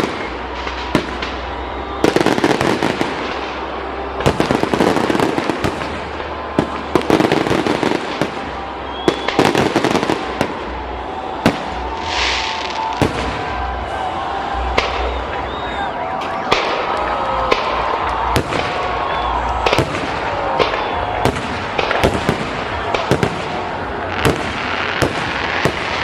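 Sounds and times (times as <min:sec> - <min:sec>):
firework crackling: 0:00.0 - 0:26.0.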